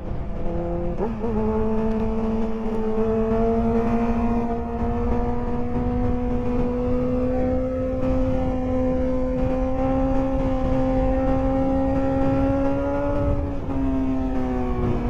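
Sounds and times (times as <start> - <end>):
motorcycle engine accelerating: 0.0 - 15.0
wind rush: 0.0 - 15.0.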